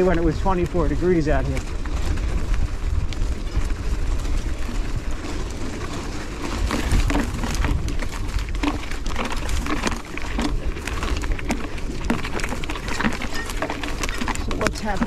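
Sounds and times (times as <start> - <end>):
bike tyres rumbling on dirt: 0.0 - 15.0.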